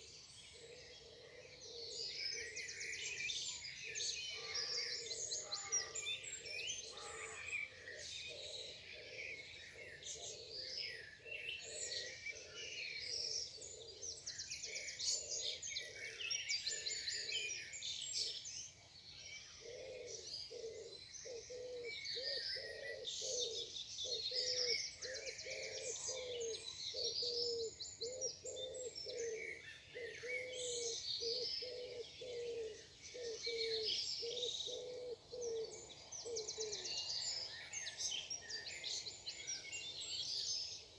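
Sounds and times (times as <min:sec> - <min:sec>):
songbirds singing and trilling: 0:00.0 - 0:40.9.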